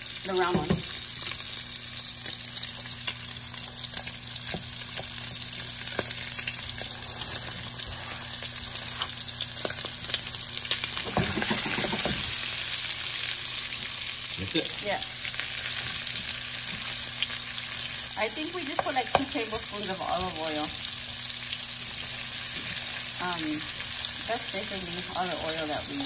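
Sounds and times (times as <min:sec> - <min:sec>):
sausage sizzling in frying pan: 0:00.0 - 0:26.0.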